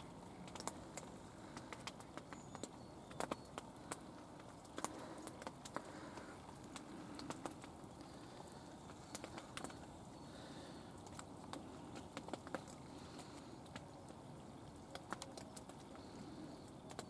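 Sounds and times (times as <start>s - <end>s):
faint steady noise: 0.0s - 17.0s
hailstones ticking: 0.0s - 17.0s.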